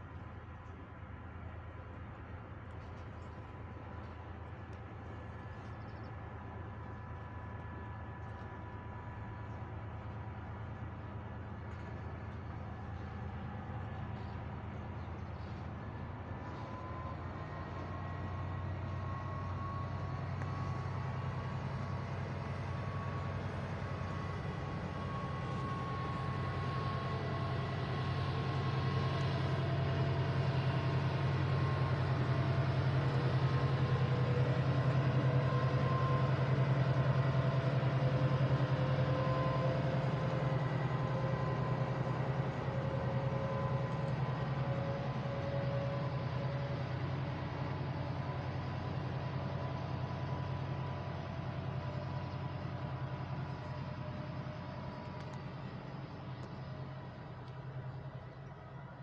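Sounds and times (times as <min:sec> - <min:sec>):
diesel locomotive engine hum: 0:00.0 - 0:59.0
faint whining tones: 0:00.0 - 0:59.0
wagons rumbling on rails: 0:00.0 - 0:59.0.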